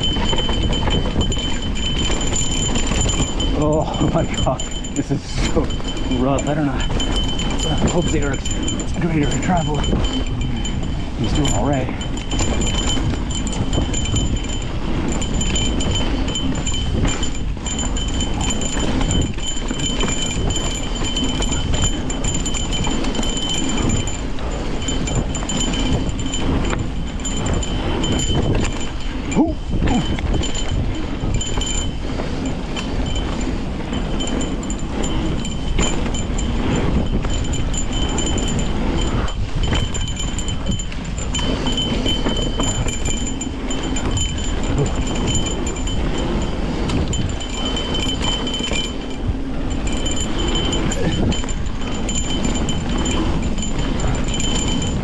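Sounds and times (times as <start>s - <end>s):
high ringing: 0.0s - 55.0s
mountain bike clattering over roots: 0.0s - 55.0s.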